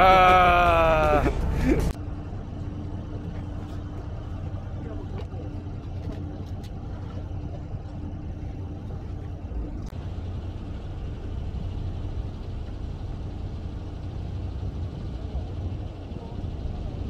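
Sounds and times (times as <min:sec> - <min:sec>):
boat engine humming: 0:00.0 - 0:17.0
wind and water noise: 0:00.0 - 0:17.0.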